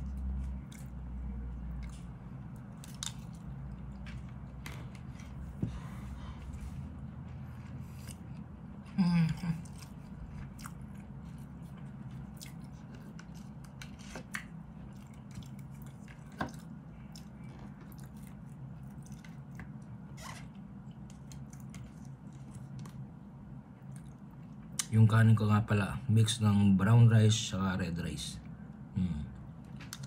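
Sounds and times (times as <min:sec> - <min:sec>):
person chewing: 0:00.0 - 0:23.1, 0:23.8 - 0:24.9.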